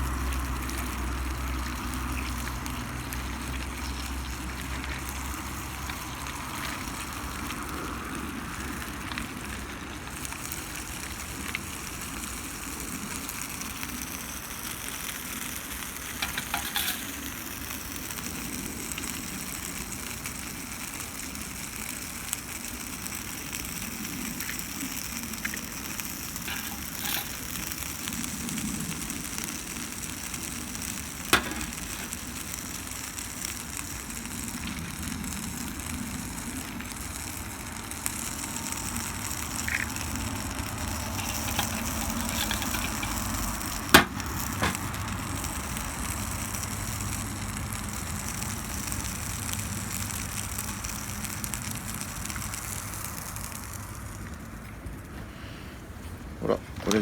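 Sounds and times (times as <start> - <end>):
fire hissing: 0.0 - 57.0
fire popping: 0.0 - 57.0.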